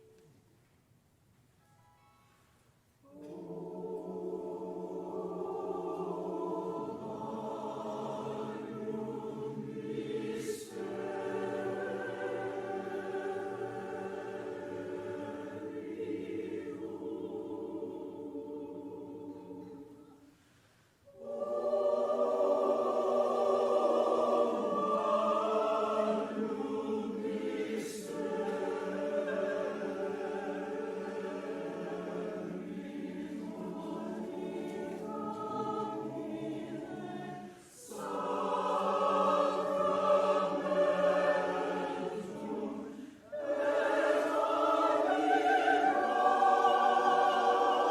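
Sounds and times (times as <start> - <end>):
choir singing: 3.0 - 20.4, 21.0 - 47.9.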